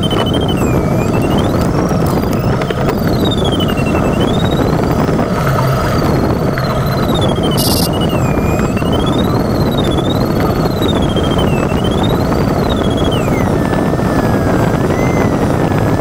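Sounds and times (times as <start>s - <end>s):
electronic tone sliding in pitch: 0.0s - 16.0s.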